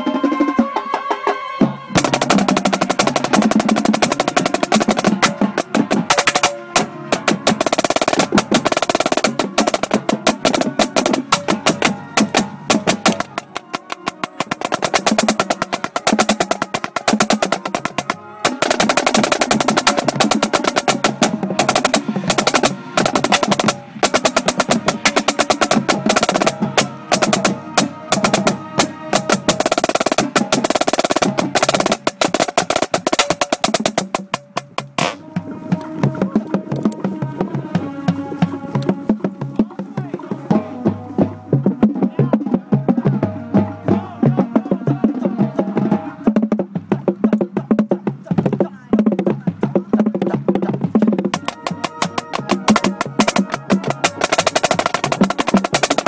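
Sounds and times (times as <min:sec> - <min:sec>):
marching band horns: 0:00.0 - 0:47.0, 0:50.3 - 0:56.0
marching snare drum rolls: 0:00.0 - 0:56.0.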